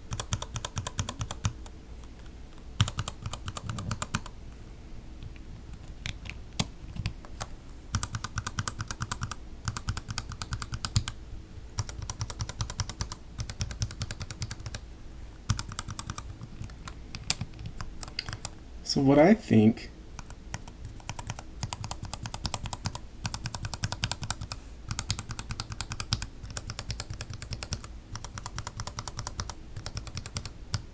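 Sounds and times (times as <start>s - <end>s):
mechanical keyboard typing: 0.1s - 1.7s, 2.8s - 4.3s, 6.0s - 11.2s, 11.8s - 14.8s, 15.5s - 18.6s, 20.2s - 30.8s.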